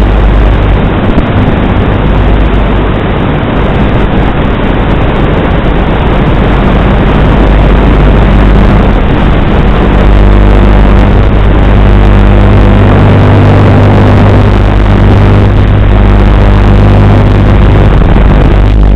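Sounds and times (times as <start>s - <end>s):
low hum: 0.0s - 18.9s
wind buffeting microphone: 0.0s - 18.9s.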